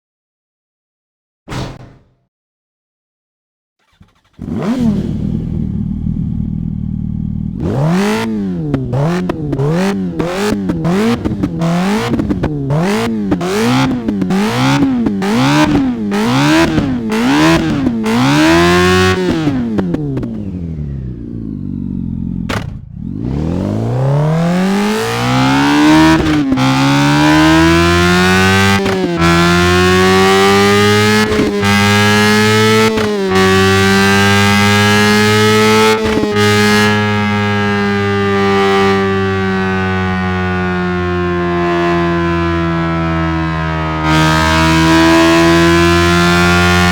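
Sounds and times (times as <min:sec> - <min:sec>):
engine revving and accelerating: 0:03.8 - 0:46.9.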